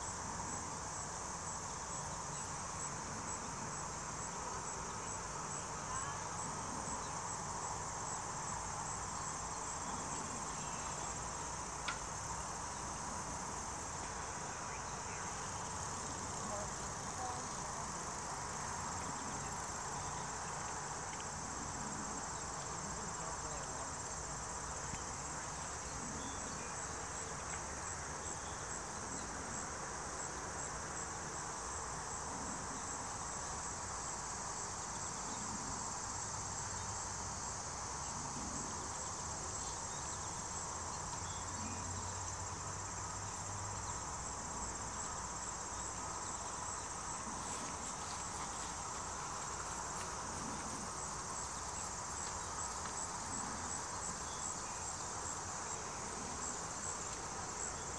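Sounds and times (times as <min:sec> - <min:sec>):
insects chirping drone: 0:00.0 - 0:57.9.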